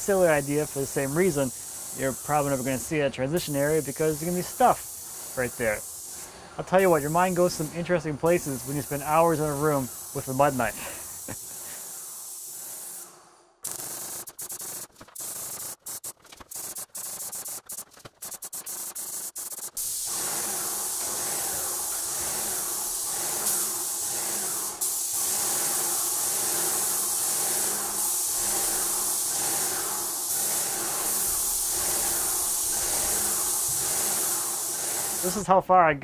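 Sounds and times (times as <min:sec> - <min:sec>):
paint sprayer hissing: 0:00.0 - 0:35.6.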